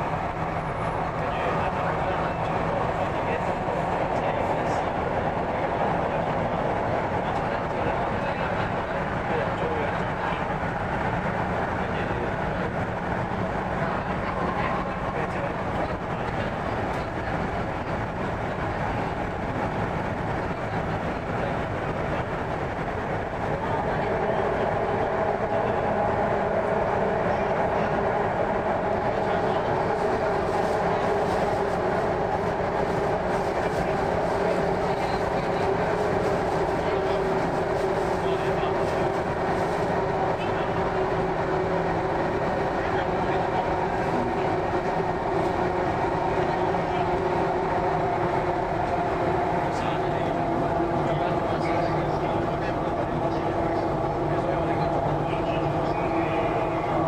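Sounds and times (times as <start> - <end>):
low train hum: 0.0 - 57.0
train wheels rumbling: 0.0 - 57.0.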